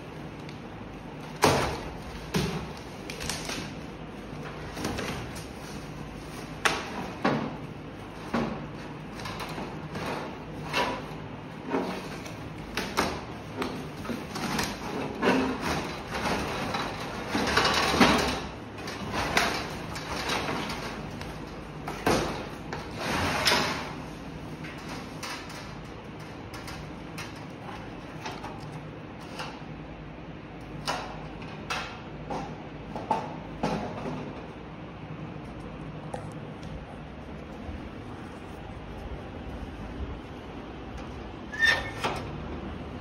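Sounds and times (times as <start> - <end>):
cardboard rustling and scraping: 0.0 - 29.5, 36.4 - 43.0.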